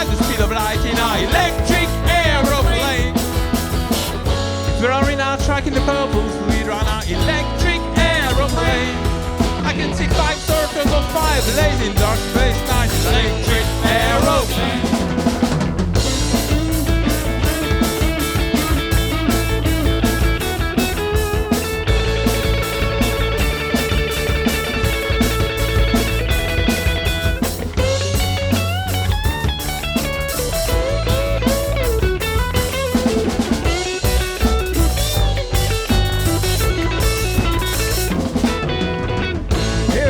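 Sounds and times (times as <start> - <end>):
bass: 0.0 - 40.0
drum kit beat: 0.0 - 40.0
electric guitar lead: 0.0 - 40.0.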